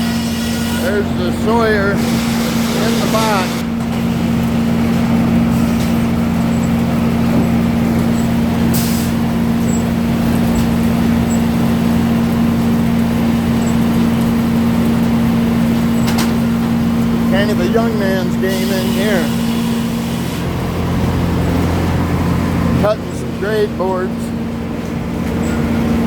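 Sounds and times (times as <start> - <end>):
sawmill machinery drone: 0.0 - 26.0.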